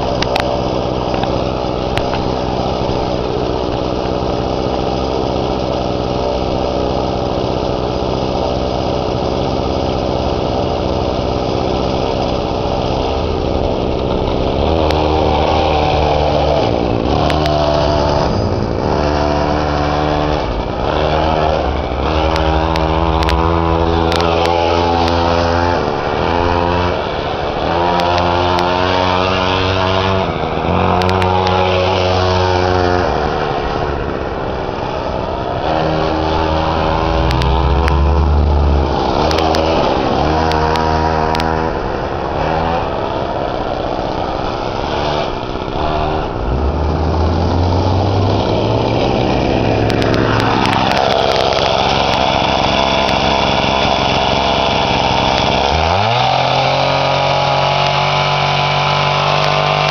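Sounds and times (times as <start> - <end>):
small gas engine revving: 0.0 - 59.9.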